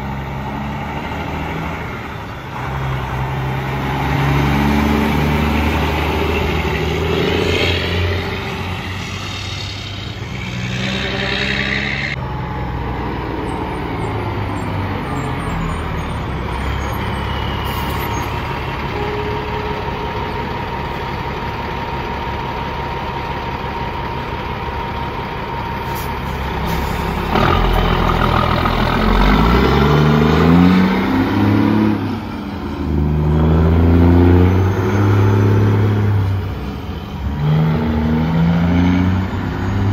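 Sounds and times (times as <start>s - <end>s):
truck engines accelerating: 0.0s - 39.9s.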